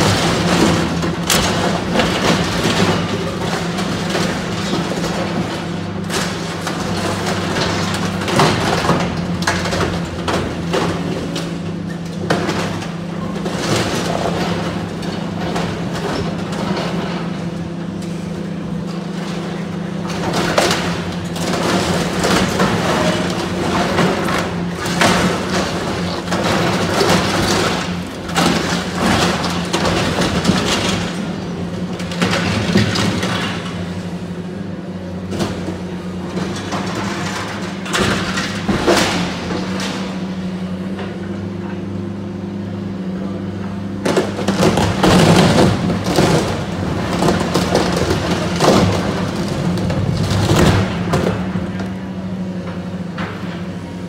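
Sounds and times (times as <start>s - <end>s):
metal crunching and creaking: 0.0s - 41.4s, 44.0s - 54.0s
excavator diesel engine running: 0.0s - 54.0s.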